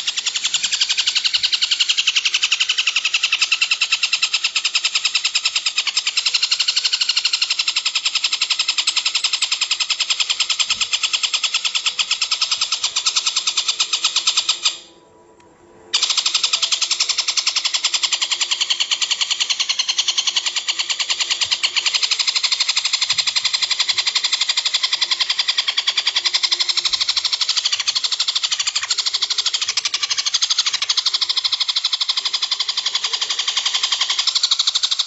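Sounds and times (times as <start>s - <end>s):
songbird trilling: 0.0s - 14.9s, 16.0s - 35.0s.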